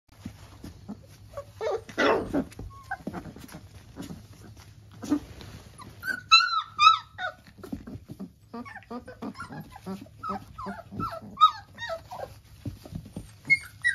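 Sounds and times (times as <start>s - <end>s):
puppies yipping and whimpering: 0.3s - 13.9s.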